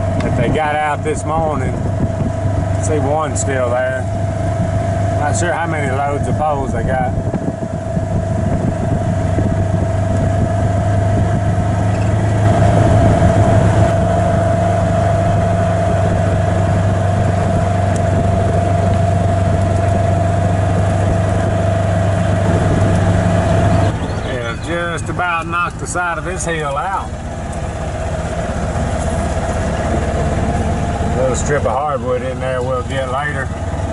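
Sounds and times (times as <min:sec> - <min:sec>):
steady whine: 0:00.0 - 0:33.9
vehicle engine running: 0:00.0 - 0:33.9.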